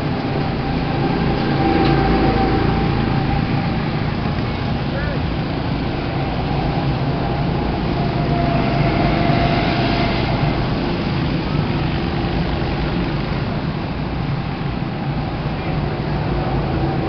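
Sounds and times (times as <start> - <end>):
go-kart engines running: 0.0 - 17.0.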